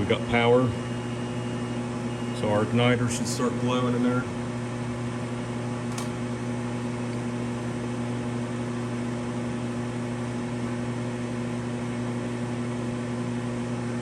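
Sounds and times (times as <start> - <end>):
furnace fan humming: 0.0 - 14.0.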